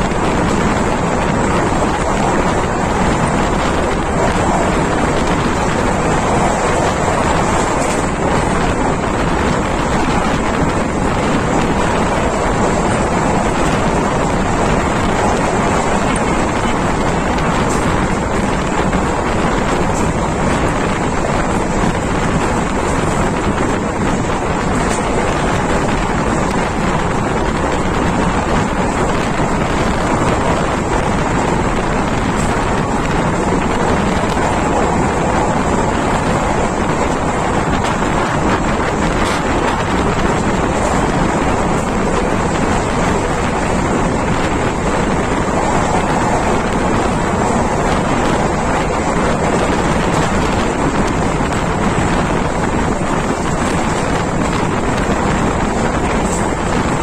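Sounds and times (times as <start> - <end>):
train running on track: 0.0 - 57.0
wind rushing over microphone: 0.0 - 57.0.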